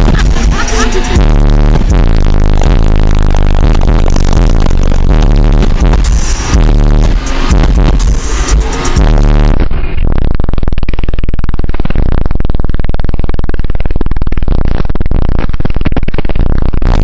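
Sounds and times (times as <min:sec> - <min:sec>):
distorted subwoofer bass buzzing: 0:00.0 - 0:17.0.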